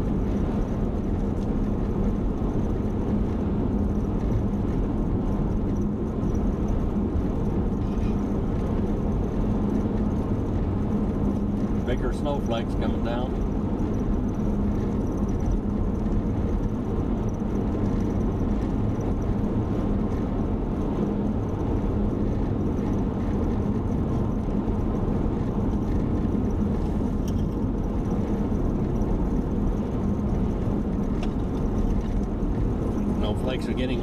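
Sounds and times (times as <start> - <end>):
car cabin road and engine drone: 0.0 - 34.0.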